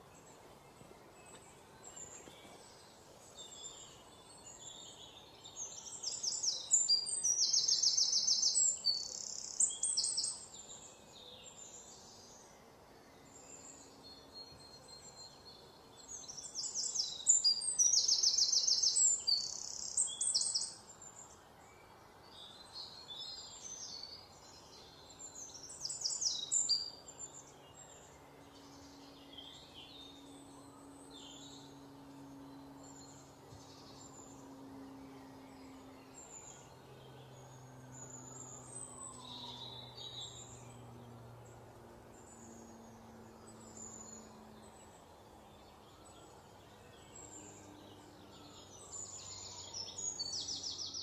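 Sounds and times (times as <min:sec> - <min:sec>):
faint low hum: 0:00.0 - 0:51.0
small birds chirping: 0:00.0 - 0:51.0.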